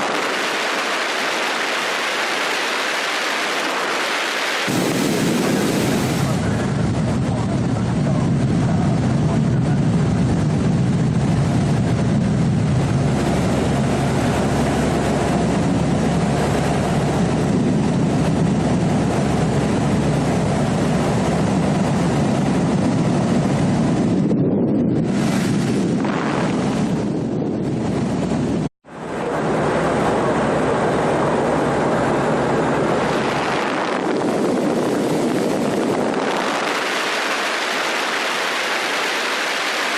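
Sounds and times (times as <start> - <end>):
aircraft engine and wind noise: 0.0 - 39.9.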